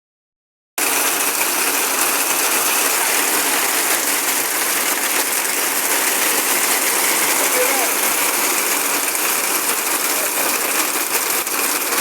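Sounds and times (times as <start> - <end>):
rain and hail clattering: 0.8 - 12.0.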